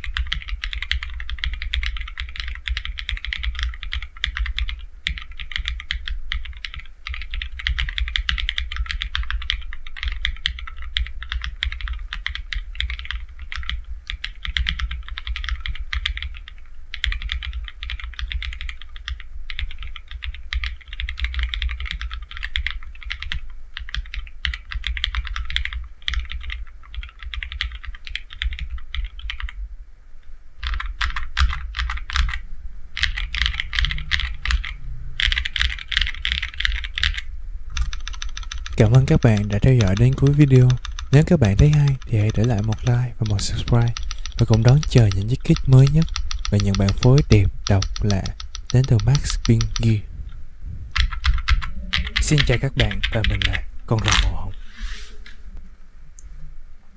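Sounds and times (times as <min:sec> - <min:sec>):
keyboard typing: 0:00.0 - 0:29.6, 0:30.6 - 0:32.4, 0:33.0 - 0:50.0, 0:50.9 - 0:54.6.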